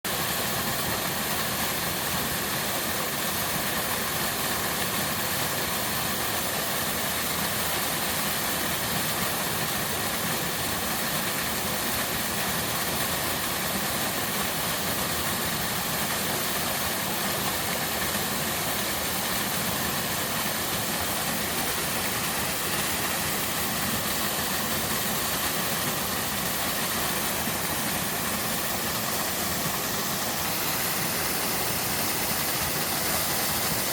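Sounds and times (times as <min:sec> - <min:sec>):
waterfall pouring: 0:00.1 - 0:33.9.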